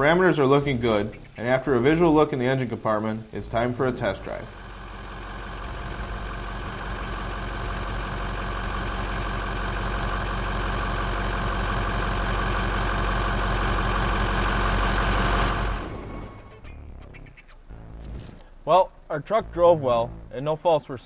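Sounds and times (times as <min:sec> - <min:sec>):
diesel engine running: 0:00.0 - 0:20.7.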